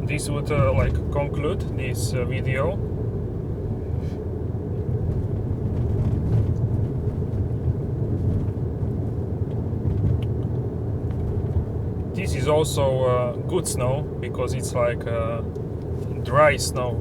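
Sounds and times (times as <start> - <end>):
tyres rumbling on snow: 0.0 - 3.2, 4.8 - 17.0
car engine running: 0.0 - 17.0.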